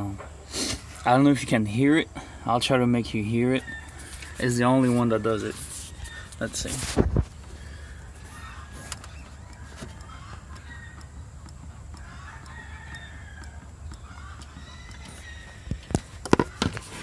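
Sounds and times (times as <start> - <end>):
chickens clucking: 3.3 - 17.0.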